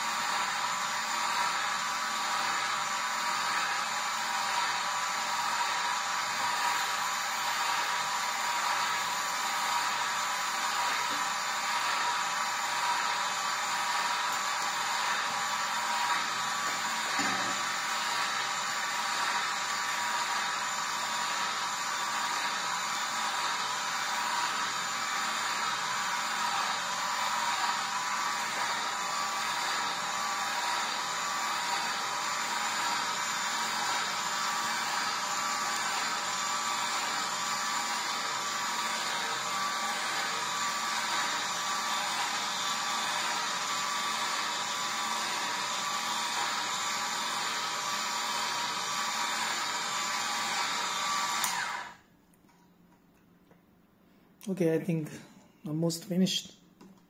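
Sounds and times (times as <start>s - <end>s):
juicer motor whirring: 0.0s - 52.1s.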